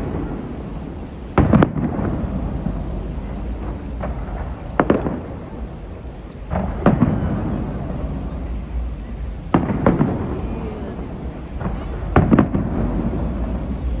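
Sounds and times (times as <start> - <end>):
firework bangs with echo: 0.0 - 8.5, 9.4 - 14.0
low rumble of firework bursts: 0.0 - 14.0.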